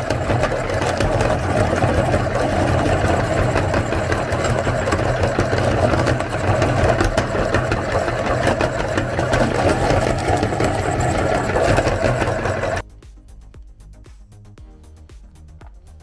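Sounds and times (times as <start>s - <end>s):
meat grinder motor droning: 0.0s - 12.8s.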